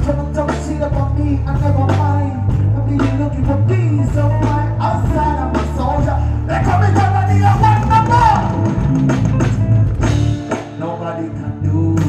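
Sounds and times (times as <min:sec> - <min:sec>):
man singing into microphone: 0:00.0 - 0:08.8, 0:10.5 - 0:12.0
live music with heavy bass: 0:00.0 - 0:12.0.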